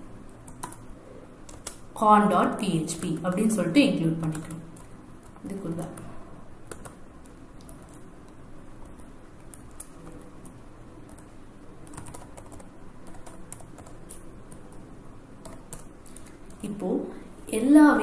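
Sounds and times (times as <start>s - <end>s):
computer keyboard typing: 0.3s - 1.9s, 2.8s - 16.6s.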